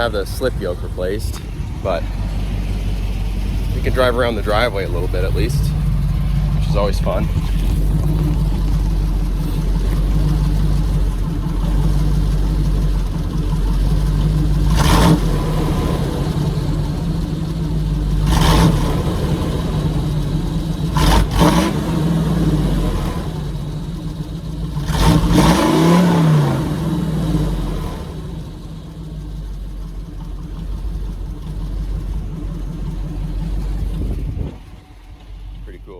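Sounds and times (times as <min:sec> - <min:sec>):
engine rumbling: 0:00.0 - 0:35.9
engine throttle blips: 0:00.0 - 0:35.9.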